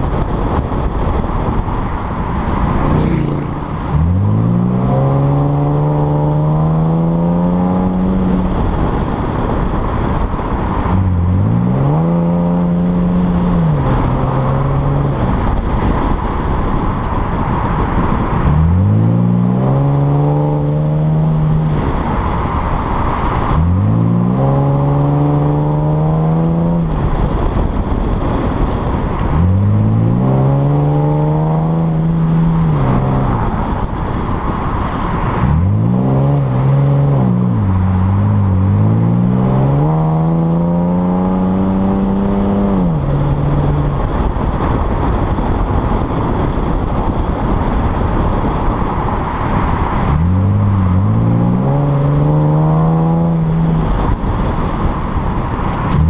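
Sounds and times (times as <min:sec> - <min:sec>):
car engine and exhaust revving: 0:00.0 - 0:56.0
wind and road noise: 0:00.0 - 0:56.0.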